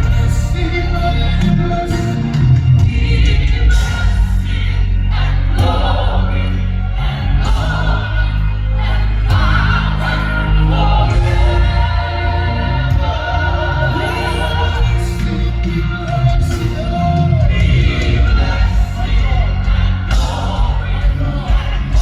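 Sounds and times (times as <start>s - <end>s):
band with heavy bass: 0.0s - 22.0s
voices singing with vibrato: 0.0s - 22.0s.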